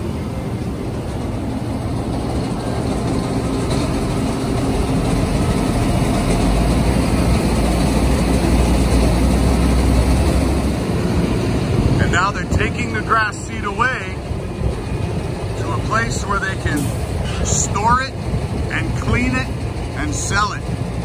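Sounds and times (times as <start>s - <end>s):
combine harvester rumble: 0.0s - 21.0s.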